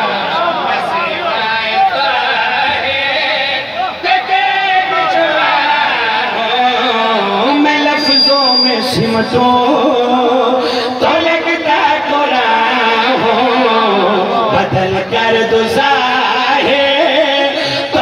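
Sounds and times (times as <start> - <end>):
man chanting over loudspeaker: 0.0 - 18.0.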